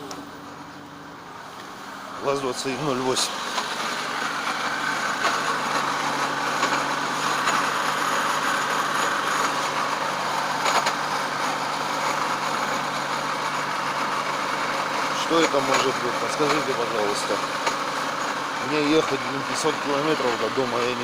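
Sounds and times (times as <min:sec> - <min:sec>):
car engine idling: 0:00.0 - 0:21.0
gearbox grinding with knocks: 0:03.1 - 0:21.0.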